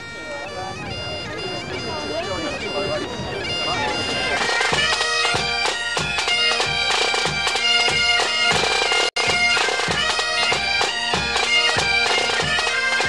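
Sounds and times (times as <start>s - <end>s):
bagpipes playing a tune: 0.0s - 13.0s.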